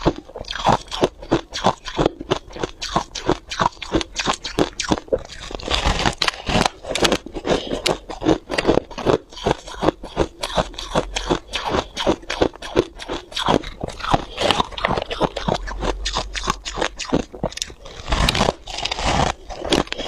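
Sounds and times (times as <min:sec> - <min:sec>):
frost being chewed: 0:00.0 - 0:20.0.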